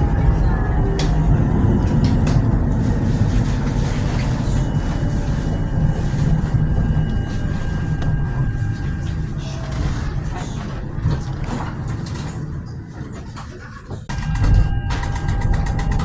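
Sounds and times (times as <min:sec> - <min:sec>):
tram running on rails: 0:00.0 - 0:16.0.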